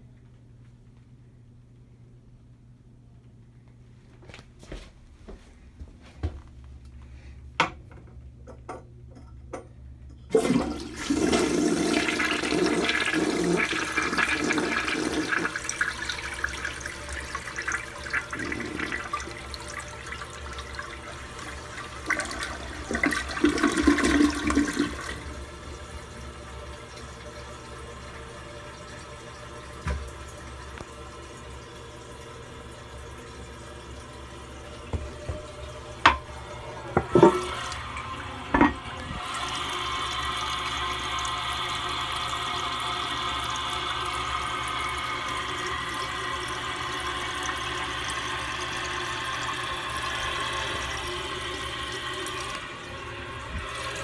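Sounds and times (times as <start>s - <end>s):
toilet flushing: 10.3s - 54.0s
water refilling tank: 10.3s - 54.0s.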